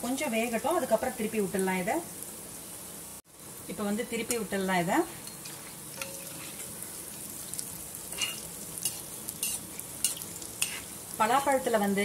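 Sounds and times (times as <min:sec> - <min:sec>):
fritters sizzling in hot oil: 0:00.0 - 0:12.0.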